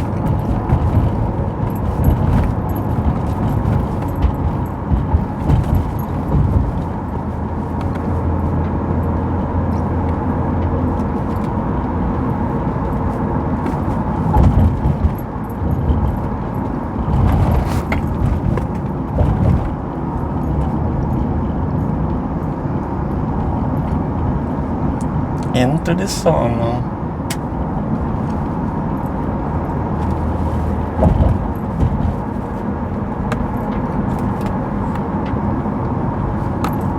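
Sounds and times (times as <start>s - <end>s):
light knocks and rattles: 0.0s - 22.5s, 28.2s - 36.9s
low rumble of engine and tyres: 0.0s - 36.9s.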